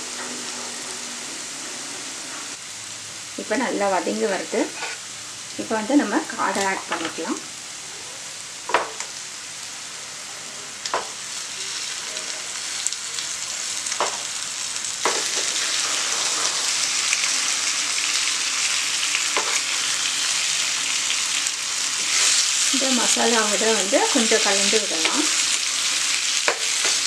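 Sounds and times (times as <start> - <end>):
masala sizzling in a frying pan: 0.0 - 27.0.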